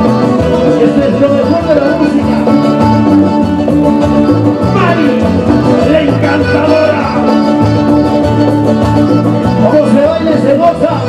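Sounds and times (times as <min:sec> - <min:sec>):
live band playing dance tune: 0:00.0 - 0:11.0.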